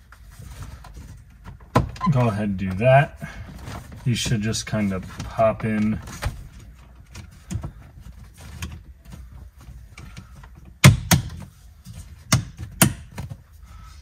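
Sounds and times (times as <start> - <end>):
plastic parts knocking and rustling: 0.1 - 13.6.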